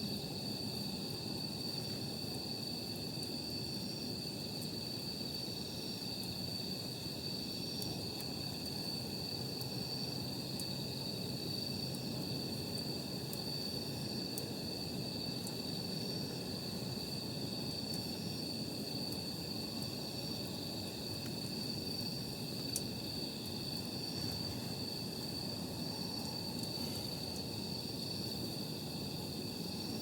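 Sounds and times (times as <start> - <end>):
low background hiss: 0.0 - 30.0
night insects chirring: 0.0 - 30.0.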